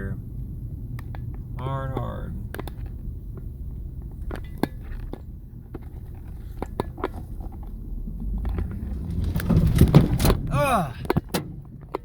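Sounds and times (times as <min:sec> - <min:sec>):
vehicle rumble from inside cab: 0:00.0 - 0:12.0
sharp clicks and crunches: 0:01.0 - 0:12.0.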